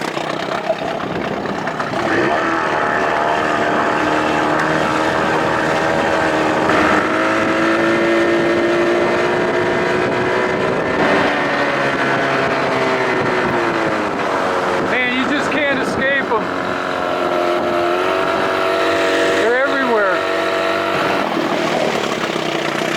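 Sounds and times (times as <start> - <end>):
outboard motor revving: 0.0 - 22.9.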